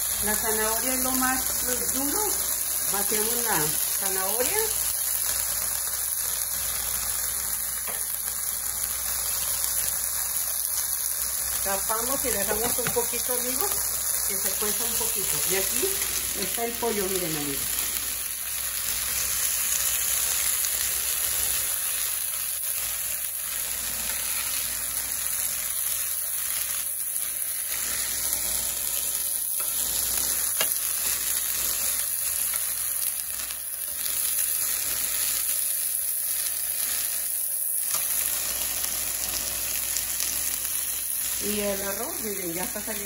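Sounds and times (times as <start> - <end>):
chicken sizzling in oil: 0.0 - 43.0
spatula turning food in pan: 0.0 - 43.0.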